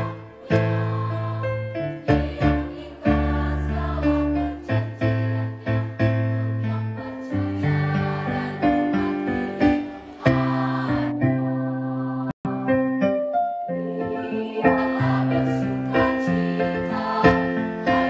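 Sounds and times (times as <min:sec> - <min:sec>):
school choir singing: 0:00.0 - 0:12.4, 0:13.8 - 0:18.0.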